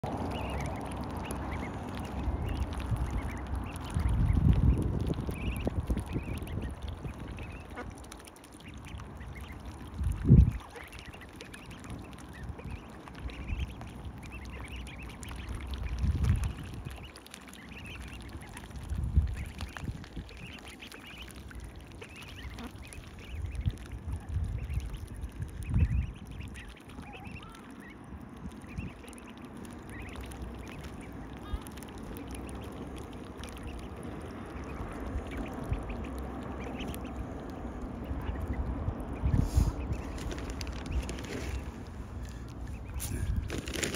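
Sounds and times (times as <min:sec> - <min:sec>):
ducklings peeping: 0:00.0 - 0:43.9
low rumbles: 0:00.0 - 0:43.9.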